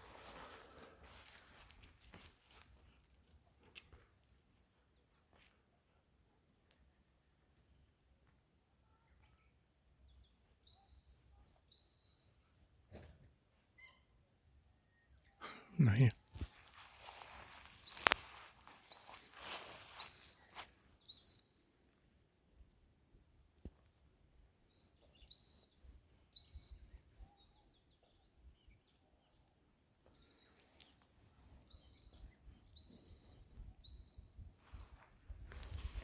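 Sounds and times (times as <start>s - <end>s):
songbird chirping: 0.0s - 12.9s, 14.6s - 36.0s.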